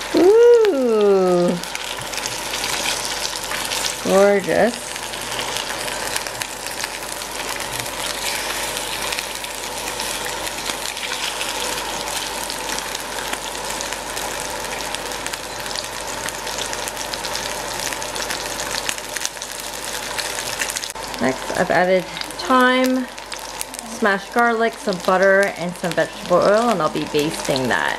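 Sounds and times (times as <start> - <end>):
fish sizzling in hot oil: 0.0 - 27.9.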